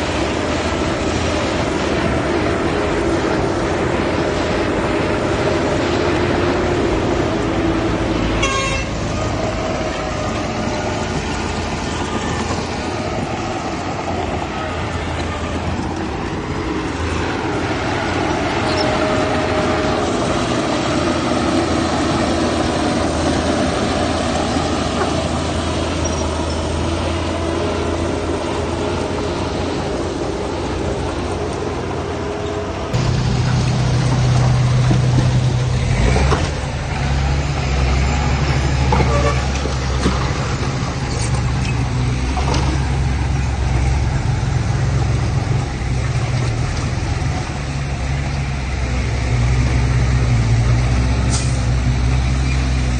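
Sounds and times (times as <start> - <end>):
diesel machinery droning: 0.0 - 52.9.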